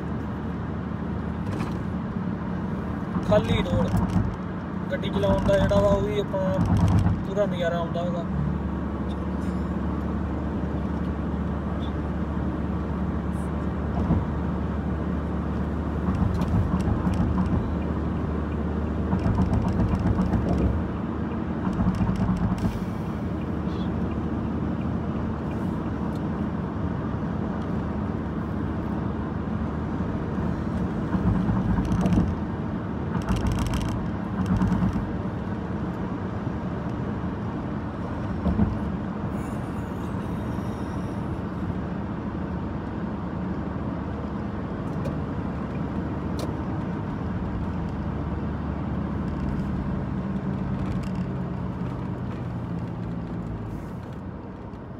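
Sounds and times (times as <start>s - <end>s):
car road and engine noise: 0.0s - 54.9s.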